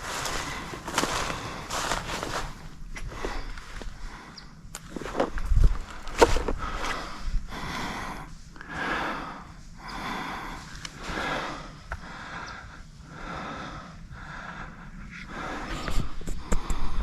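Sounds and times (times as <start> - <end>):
heavy breathing: 0.0 - 17.0.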